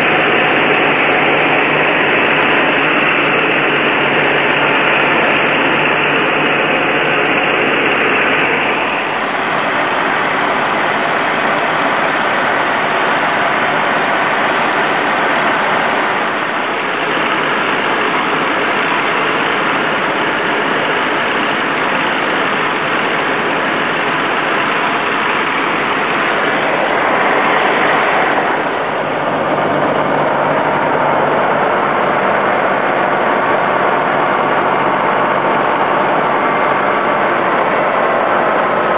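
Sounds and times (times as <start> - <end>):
aircraft piston engine: 0.0 - 38.9
rushing airflow: 0.0 - 38.9.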